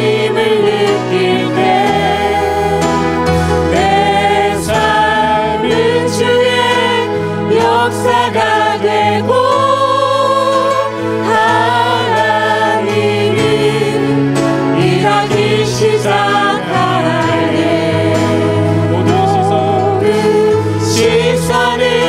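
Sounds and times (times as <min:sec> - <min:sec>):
acoustic guitar: 0:00.0 - 0:22.0
group singing worship song: 0:00.0 - 0:22.0.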